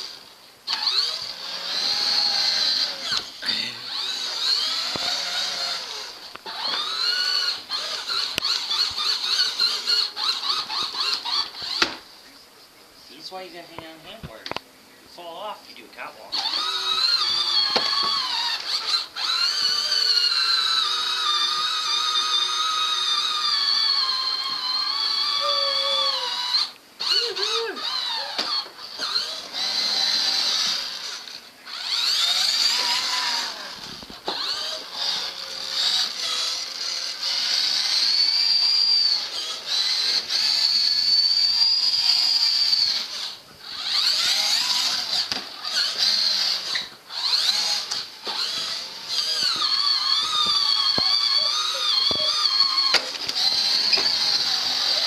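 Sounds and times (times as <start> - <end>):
toy vehicle motor whining: 0.0 - 12.0, 16.3 - 55.0.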